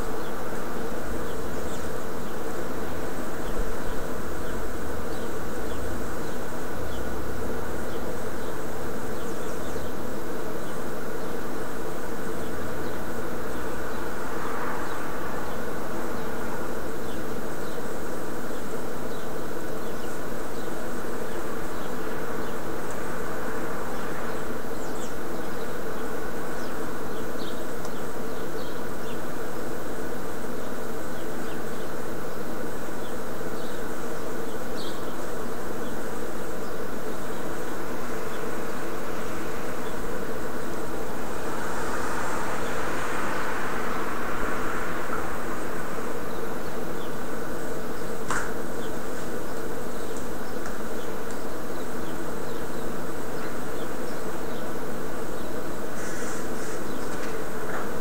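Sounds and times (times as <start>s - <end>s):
loud buzzing hum: 0.0s - 58.0s.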